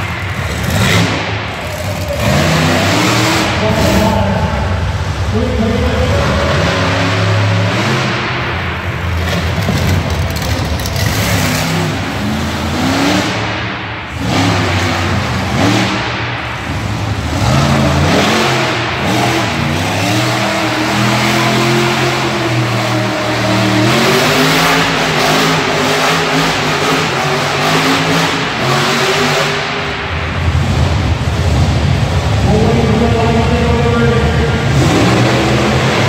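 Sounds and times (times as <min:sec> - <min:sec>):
truck engine revving hard: 0:00.0 - 0:36.0.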